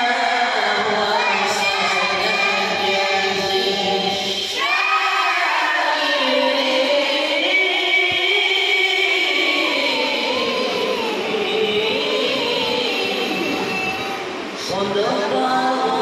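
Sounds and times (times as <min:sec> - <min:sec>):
young voices chanting together: 0:00.0 - 0:16.0.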